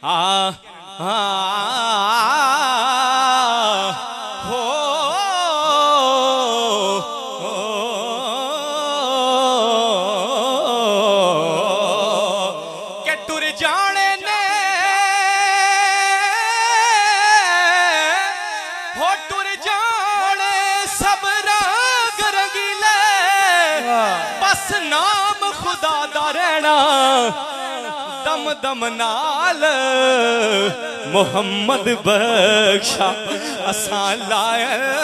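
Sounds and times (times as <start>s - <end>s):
man singing into microphone: 0.0s - 35.0s.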